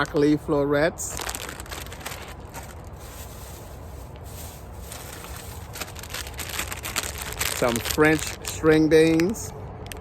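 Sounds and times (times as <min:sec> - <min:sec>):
packaging rubbing and rustling: 0:01.1 - 0:09.3.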